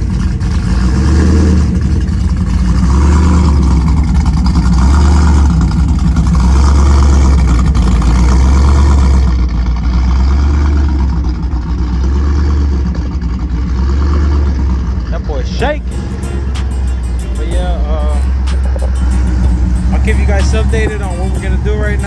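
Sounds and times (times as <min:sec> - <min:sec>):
engine idling with deep rumble: 0:00.0 - 0:22.0.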